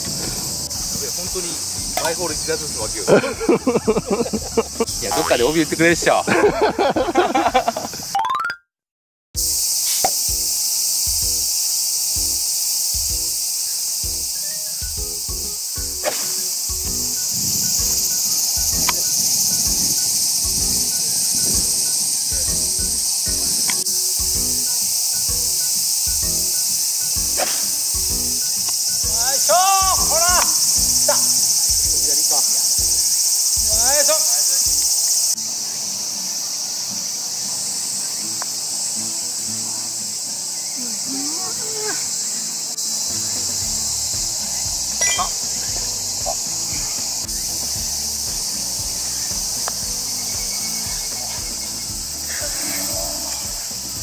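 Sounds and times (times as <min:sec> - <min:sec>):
insects chorus: 0:00.0 - 0:08.1, 0:09.4 - 0:54.0.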